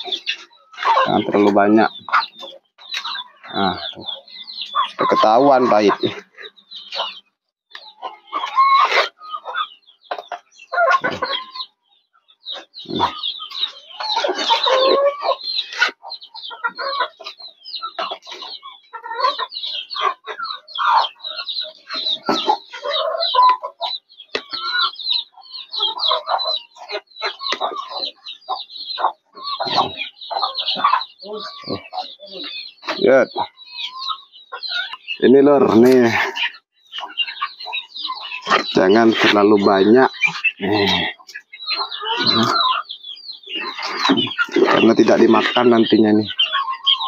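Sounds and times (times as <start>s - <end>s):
roosters clucking: 0.0s - 47.0s.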